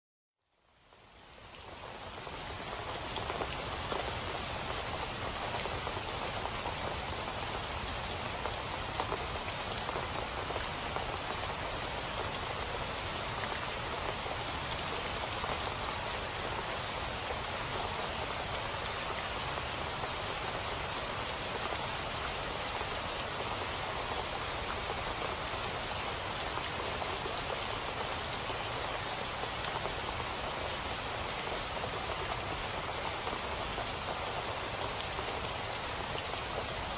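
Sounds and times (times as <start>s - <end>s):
heavy rain splashing on puddles: 0.4s - 36.9s.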